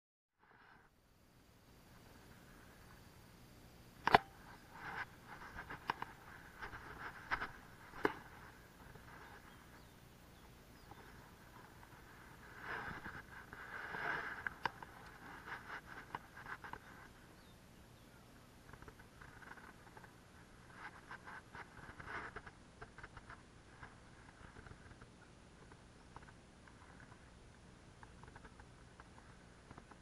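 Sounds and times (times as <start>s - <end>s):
rustling: 4.0s - 17.5s, 18.6s - 30.0s.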